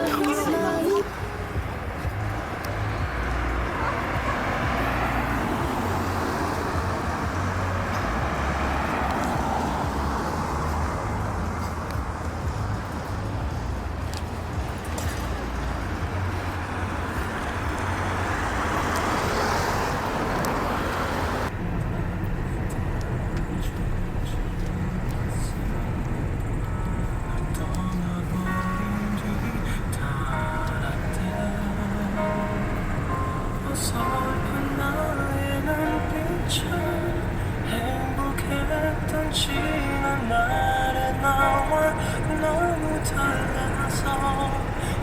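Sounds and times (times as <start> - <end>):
vehicles passing on road: 0.0 - 45.0.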